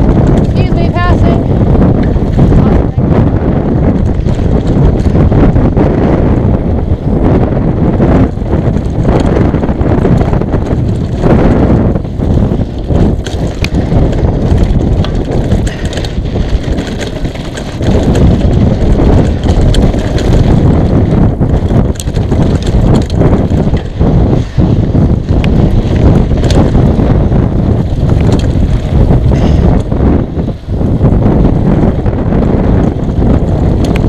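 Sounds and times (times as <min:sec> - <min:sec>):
bike clicks and clatters: 0:00.0 - 0:34.0
tyres rumbling on dirt: 0:00.0 - 0:34.0
wind buffeting microphone: 0:00.0 - 0:34.0.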